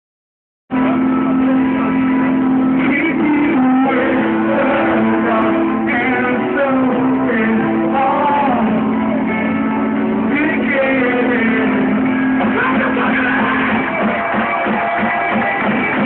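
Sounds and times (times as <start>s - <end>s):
electric guitars: 0.7s - 16.0s
live rock band: 0.7s - 16.0s
person singing: 0.7s - 16.0s.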